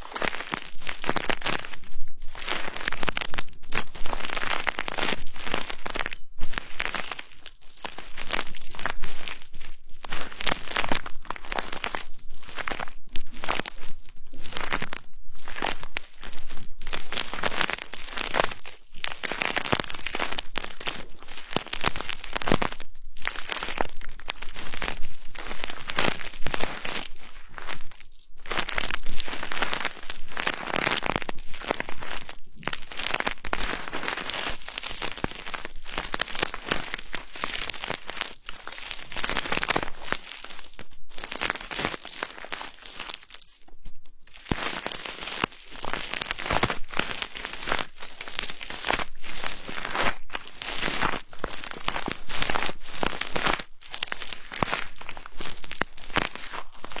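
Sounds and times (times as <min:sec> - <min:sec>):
crinkly rustling on microphone: 0:00.0 - 0:57.0.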